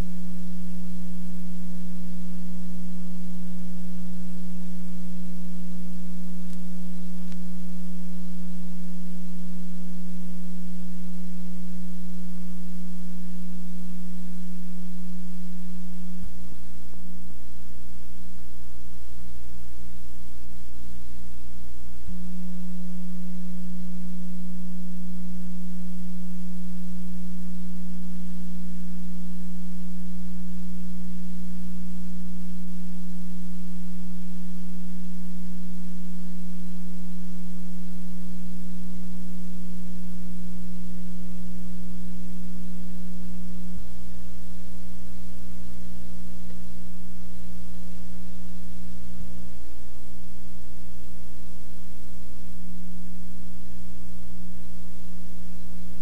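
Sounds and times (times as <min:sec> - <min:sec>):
electrical hum: 0:00.0 - 0:56.0.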